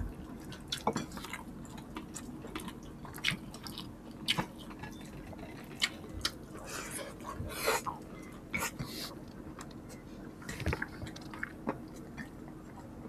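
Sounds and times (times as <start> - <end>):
chewing and lip-smacking: 0.0 - 13.0.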